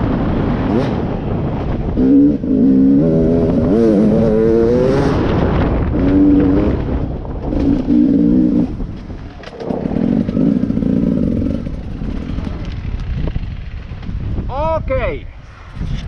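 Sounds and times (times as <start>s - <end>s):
two-stroke motorcycle engine revving: 0.0s - 13.2s.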